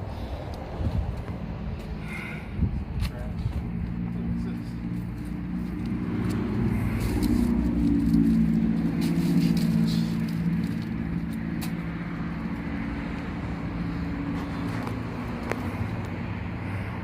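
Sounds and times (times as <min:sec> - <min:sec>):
engine humming: 0:00.0 - 0:17.0
outdoor rumble: 0:00.0 - 0:17.0.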